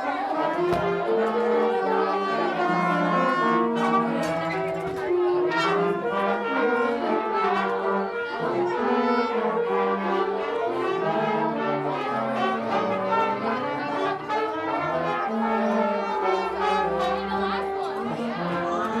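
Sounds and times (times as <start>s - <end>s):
brass instruments warming up: 0.0s - 19.0s.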